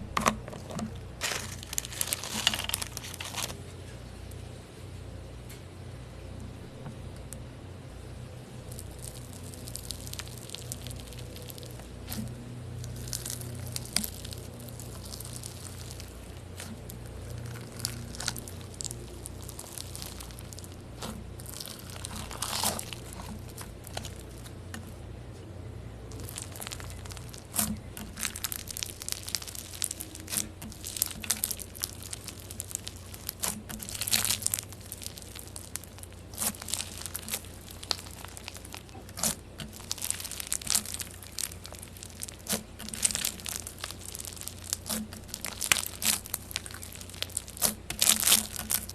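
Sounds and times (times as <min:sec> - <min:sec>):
slime crackling and crunching: 0:00.0 - 0:03.6, 0:08.6 - 0:25.0, 0:26.1 - 0:48.9
steady low hum: 0:00.0 - 0:48.9.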